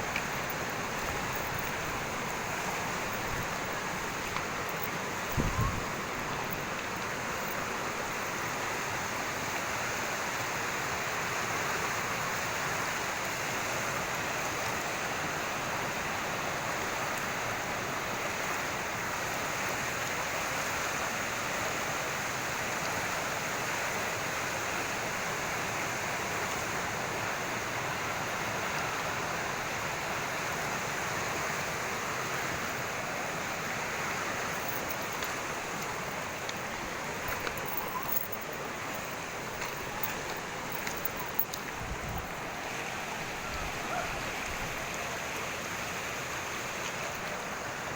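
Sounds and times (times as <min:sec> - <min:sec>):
water rushing: 0:00.0 - 0:47.9.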